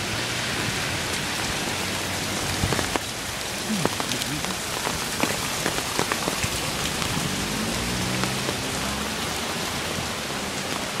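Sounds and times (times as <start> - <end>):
heavy rain pouring: 0.0 - 11.0
raindrops ticking close by: 0.0 - 11.0.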